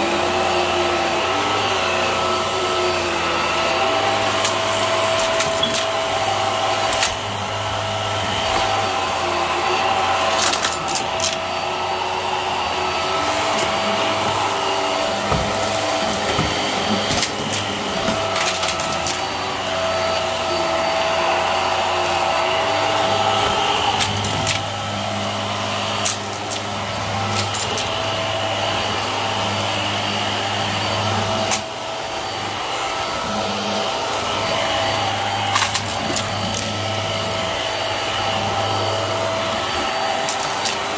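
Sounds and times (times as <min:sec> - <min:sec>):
upright vacuum cleaner running: 0:00.0 - 0:40.9.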